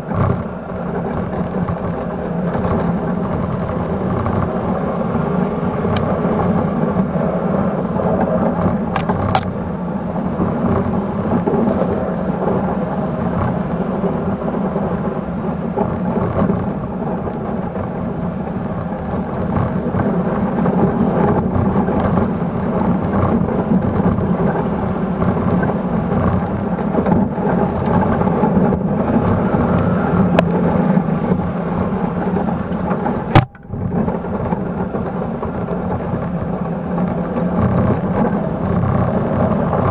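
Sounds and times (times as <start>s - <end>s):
snow plow pushing snow: 0.0s - 39.9s
truck engine under load: 0.0s - 39.9s.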